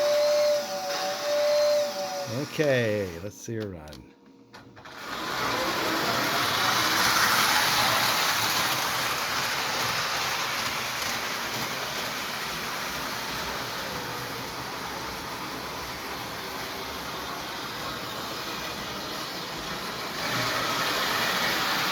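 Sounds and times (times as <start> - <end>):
toy train running on track: 0.0 - 2.6, 4.9 - 21.9.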